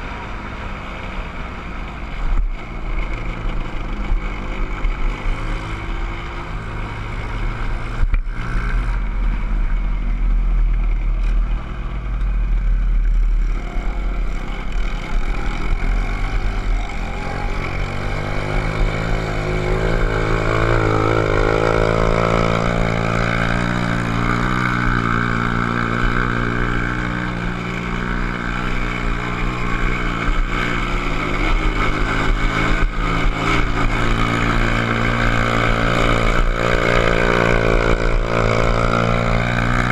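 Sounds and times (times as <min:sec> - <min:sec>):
dirt bike engine running: 0:02.1 - 0:39.9.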